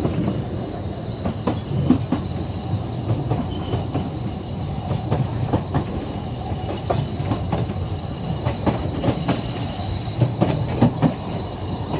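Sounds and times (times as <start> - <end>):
train carriage rumbling: 0.0 - 11.9
wheels clicking on rails: 1.2 - 11.9.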